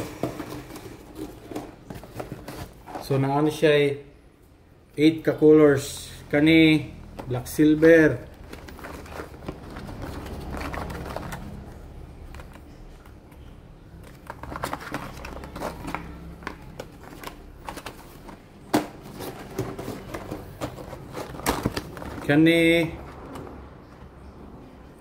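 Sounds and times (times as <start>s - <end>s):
lure packs clicking and rustling: 0.0s - 3.1s, 7.2s - 24.3s.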